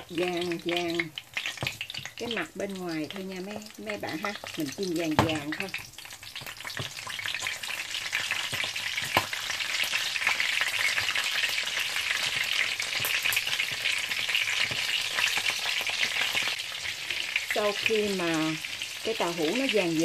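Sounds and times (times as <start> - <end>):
tofu sizzling in hot oil: 0.0 - 20.0.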